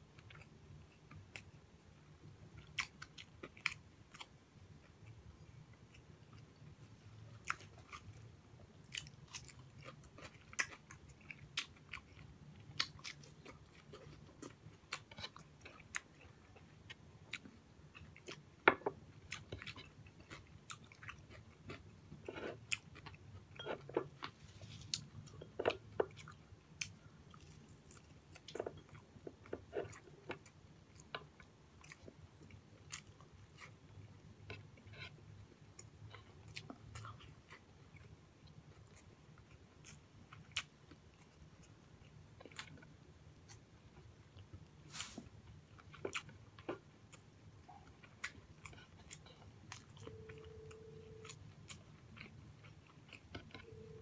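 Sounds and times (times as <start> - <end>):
man chewing food: 0.0 - 54.0.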